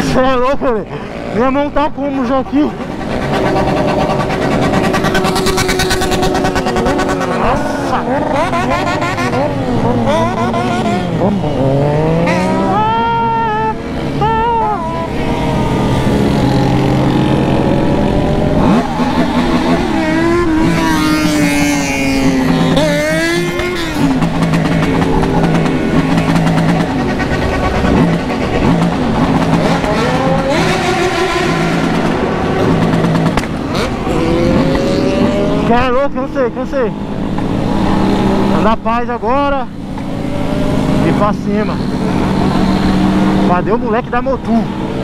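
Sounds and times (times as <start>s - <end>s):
motorcycle engines revving: 0.0s - 45.0s
wind and road noise: 0.0s - 45.0s.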